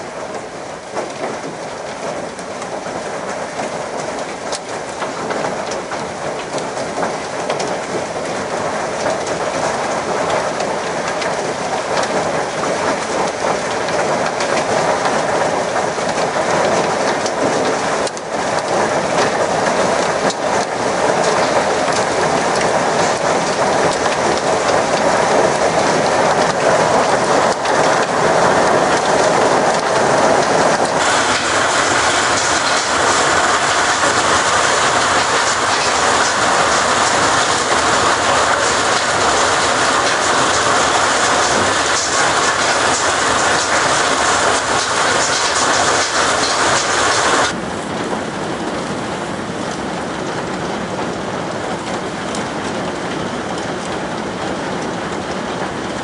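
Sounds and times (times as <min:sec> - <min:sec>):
hailstones pelting down: 0:00.0 - 0:56.0.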